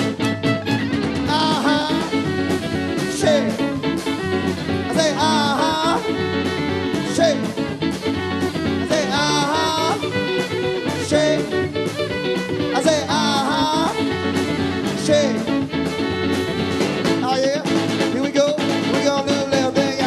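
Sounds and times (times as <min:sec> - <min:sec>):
wavering lead line: 0:00.0 - 0:18.0
live country band playing: 0:00.0 - 0:20.0.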